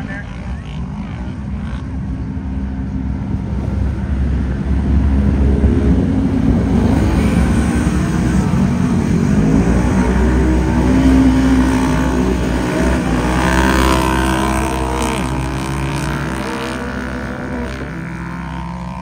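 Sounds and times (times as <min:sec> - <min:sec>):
utility vehicle engines racing: 0:00.0 - 0:19.0.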